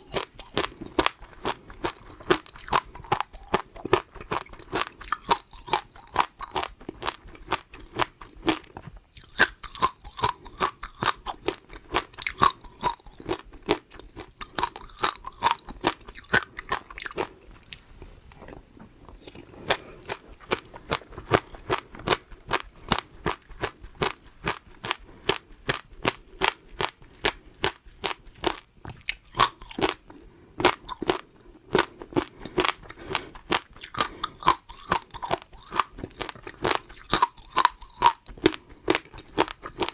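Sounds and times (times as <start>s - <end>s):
person crunching and chewing food: 0.0s - 39.9s.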